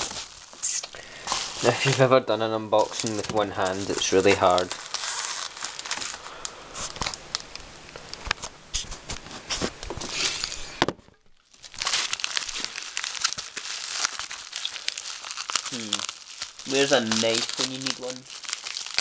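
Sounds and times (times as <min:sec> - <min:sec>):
packaging crinkling and crackling: 0:00.0 - 0:10.6, 0:11.4 - 0:19.0.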